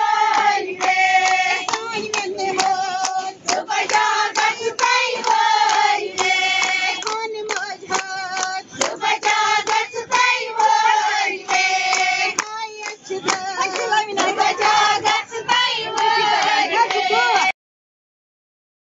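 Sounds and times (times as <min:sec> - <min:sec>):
group of voices singing: 0:00.0 - 0:17.6
rhythmic hand clapping: 0:00.0 - 0:17.6.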